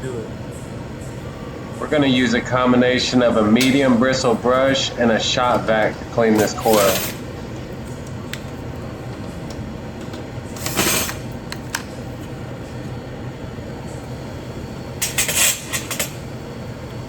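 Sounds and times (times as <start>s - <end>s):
noisy bursts: 0.0s - 17.0s
refrigerator condenser humming: 0.0s - 17.0s.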